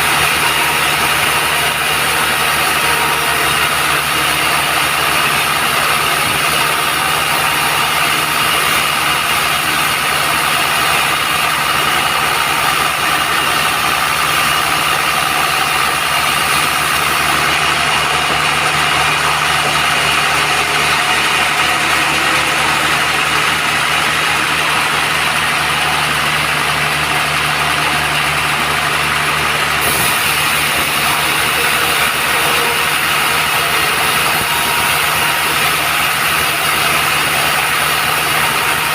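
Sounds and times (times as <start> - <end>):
band sawmill drone: 0.0 - 38.9
saw whine: 0.0 - 38.9.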